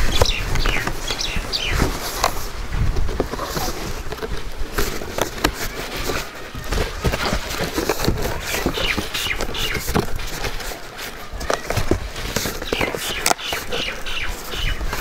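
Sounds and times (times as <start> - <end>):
birds chirping: 0.0 - 2.7, 5.4 - 15.0
cardboard clicking and rustling: 0.0 - 15.0.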